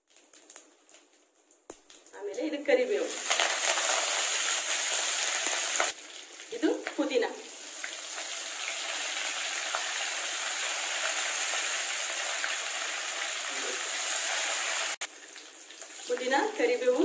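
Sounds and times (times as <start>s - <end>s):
oil sizzling in a wok: 0.0s - 17.0s.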